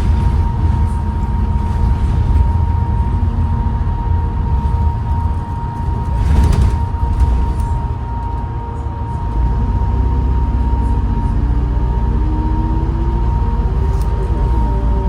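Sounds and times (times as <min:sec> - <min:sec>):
bus engine rumble: 0:00.0 - 0:15.0
high gearbox whine: 0:00.0 - 0:15.0
rising turbo whine: 0:00.0 - 0:15.0.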